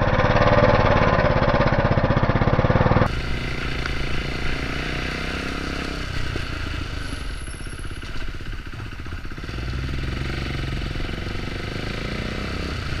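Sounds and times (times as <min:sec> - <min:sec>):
motorcycle engine: 0:00.0 - 0:13.0.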